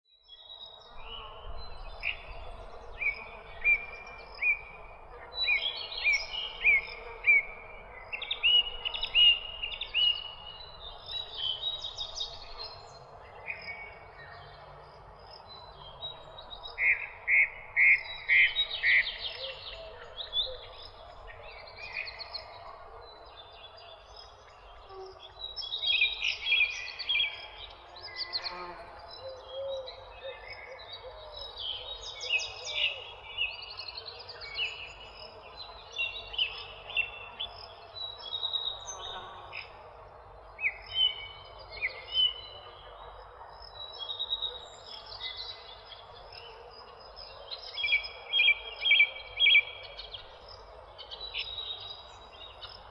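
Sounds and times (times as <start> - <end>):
songbirds chirping and singing: 0.2 - 52.9.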